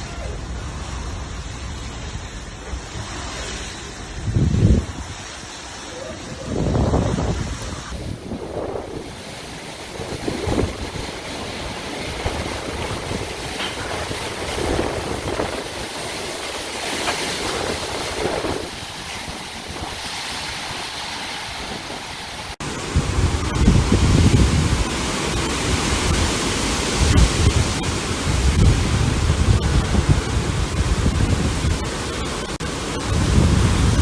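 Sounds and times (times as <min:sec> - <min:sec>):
storm wind rushing in gusts: 0:00.0 - 0:34.0.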